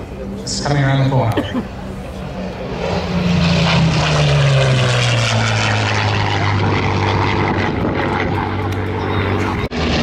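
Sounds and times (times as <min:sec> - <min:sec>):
propeller plane flying past: 0:00.0 - 0:10.0.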